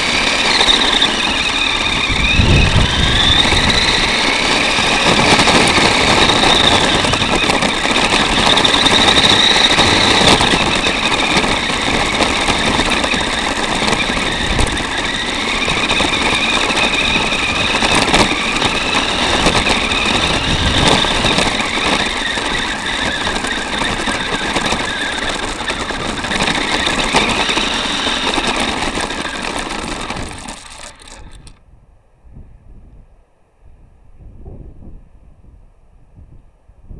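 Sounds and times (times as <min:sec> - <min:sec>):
gears rattling and clicking: 0:00.0 - 0:31.6
toy car motor whining: 0:00.0 - 0:31.6.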